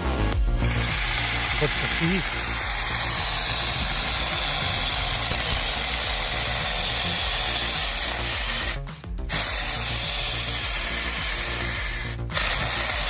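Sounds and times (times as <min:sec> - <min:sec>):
low hum: 0:00.1 - 0:13.0
machine cutting wood: 0:00.4 - 0:13.0.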